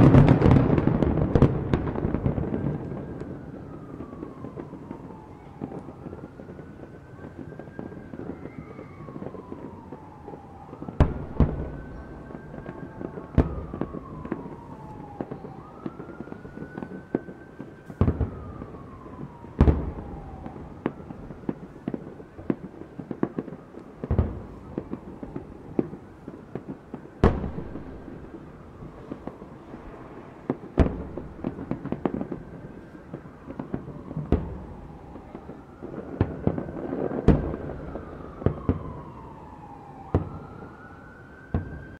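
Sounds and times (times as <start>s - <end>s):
fireworks pops and crackles: 0.0s - 40.7s
distant fireworks booming: 0.0s - 41.9s
siren wailing: 0.0s - 41.9s.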